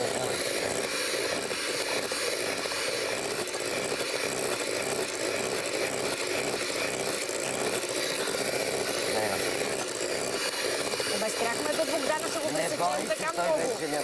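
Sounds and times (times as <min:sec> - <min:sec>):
hand blender running in glass bowl: 0:00.0 - 0:14.0.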